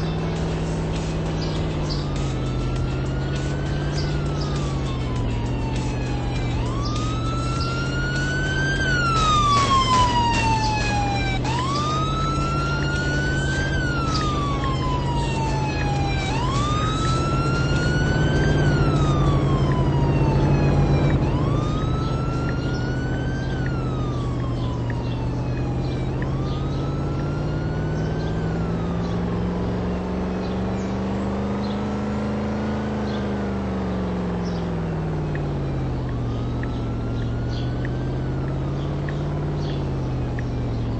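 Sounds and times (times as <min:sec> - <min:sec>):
siren wailing: 0:00.0 - 0:40.9.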